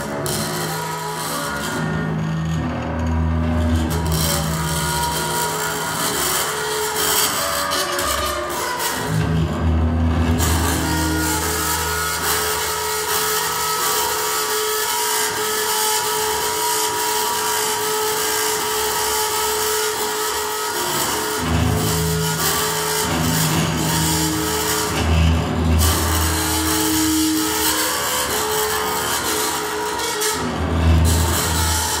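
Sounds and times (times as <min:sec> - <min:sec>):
double bass bow scraping: 0:00.0 - 0:32.0
low bowed bass notes: 0:00.0 - 0:32.0.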